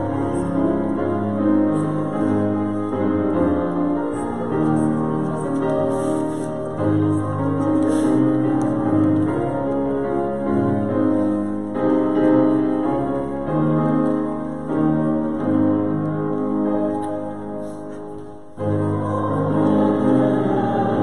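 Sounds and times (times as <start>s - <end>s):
piano playing hymn chords: 0.0s - 21.0s.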